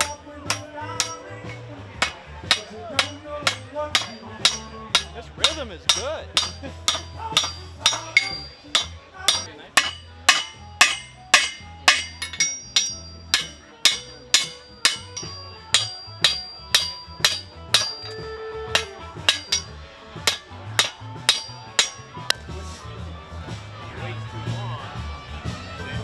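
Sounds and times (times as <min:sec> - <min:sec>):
hammer striking metal on anvil: 0:00.0 - 0:22.4
background music: 0:00.0 - 0:26.0.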